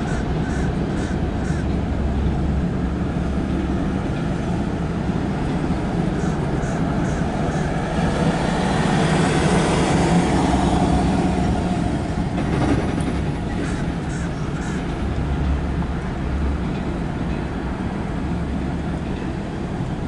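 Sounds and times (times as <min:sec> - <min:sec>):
freight cars rolling on rails: 0:00.0 - 0:20.0.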